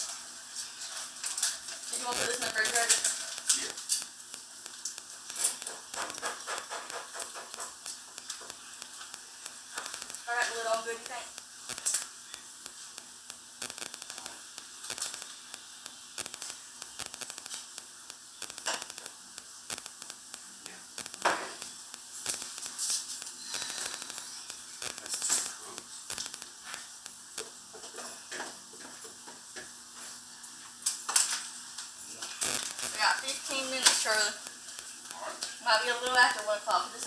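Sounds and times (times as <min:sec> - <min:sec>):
low electrical hum: 0:00.0 - 0:37.0
faint clicks: 0:01.2 - 0:27.6, 0:30.9 - 0:37.0.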